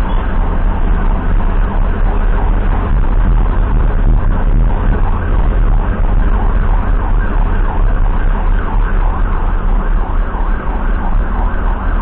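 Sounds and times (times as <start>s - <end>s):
emergency siren sweeping: 0.0s - 12.0s
moving vehicle rumble: 0.0s - 12.0s.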